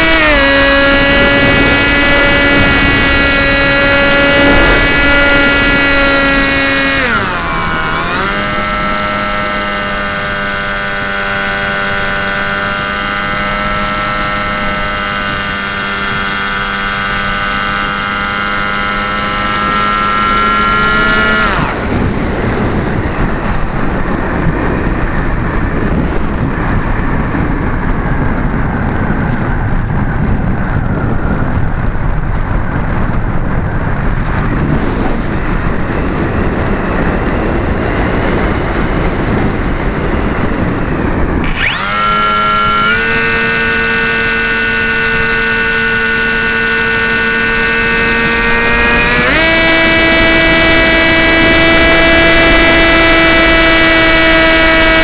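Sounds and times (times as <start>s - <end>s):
wind rushing past airframe: 0.0s - 12.7s, 19.7s - 53.1s
model airplane motor whining: 0.0s - 28.3s, 33.6s - 55.0s.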